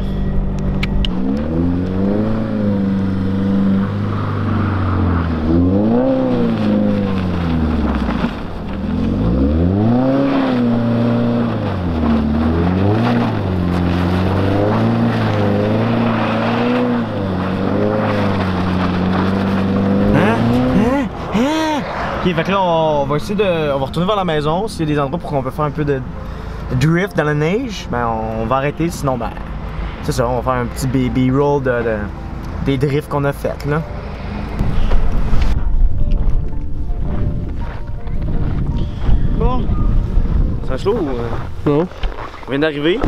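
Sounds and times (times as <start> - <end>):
car engine revving: 0.0 - 35.6.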